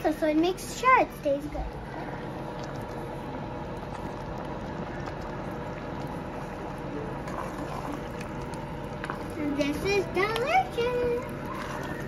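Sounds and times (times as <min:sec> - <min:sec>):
sauce bubbling and sizzling: 0:00.1 - 0:12.0
spatula stirring in pot: 0:01.8 - 0:12.0.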